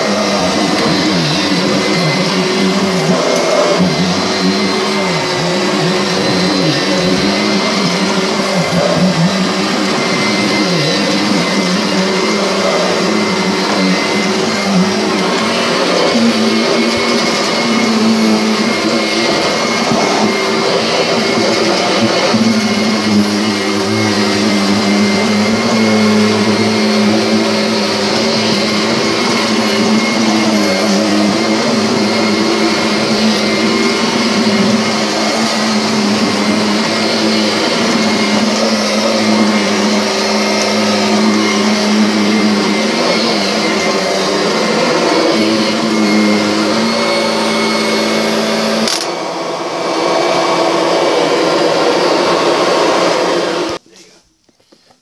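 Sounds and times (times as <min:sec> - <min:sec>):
vacuum cleaner running on carpet: 0:00.0 - 0:53.8.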